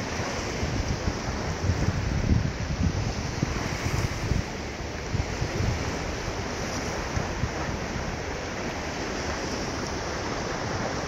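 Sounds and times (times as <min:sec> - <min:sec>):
ocean waves washing on shore: 0:00.0 - 0:11.0
wind noise on microphone: 0:00.0 - 0:11.0.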